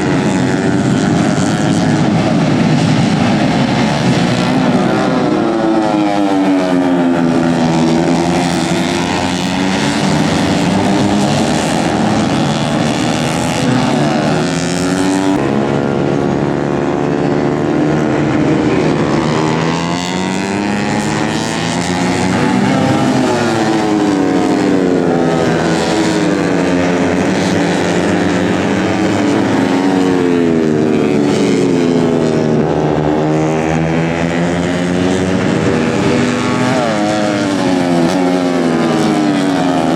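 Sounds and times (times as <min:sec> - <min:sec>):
race motorcycles revving past: 0:00.0 - 0:39.9.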